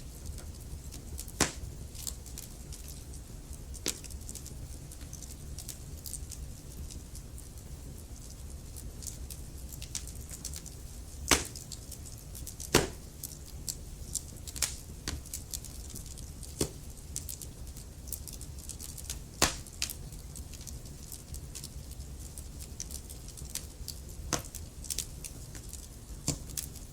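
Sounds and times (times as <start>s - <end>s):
fire popping: 0.0s - 26.9s
logs crackling in a fireplace: 0.0s - 26.9s.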